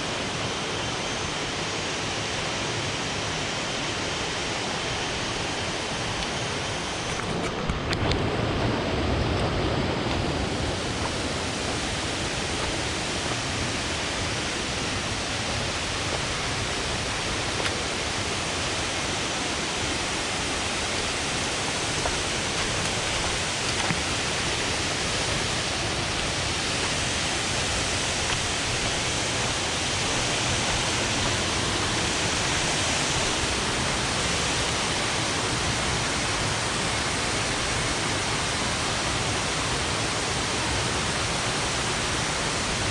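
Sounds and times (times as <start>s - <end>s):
waterfall rushing: 8.1s - 42.9s.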